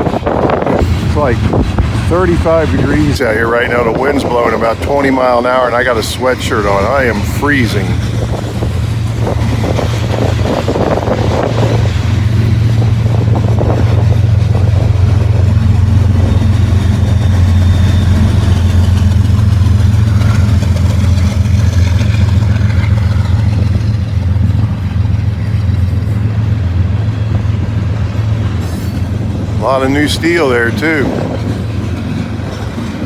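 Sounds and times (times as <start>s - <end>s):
freight train rumbling past: 0.0s - 33.0s
wind buffeting microphone: 0.0s - 33.0s.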